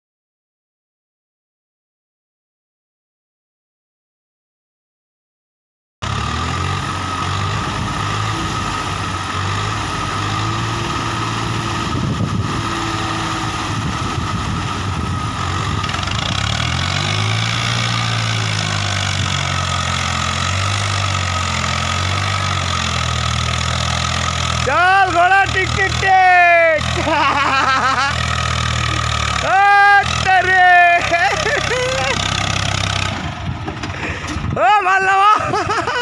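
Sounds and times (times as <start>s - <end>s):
tractor diesel engine running: 6.0s - 36.0s.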